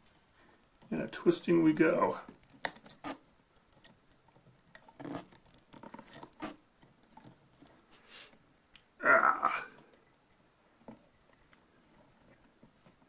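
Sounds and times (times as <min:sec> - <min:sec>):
copper wires scraping and clicking: 0:00.0 - 0:07.9, 0:09.4 - 0:13.0.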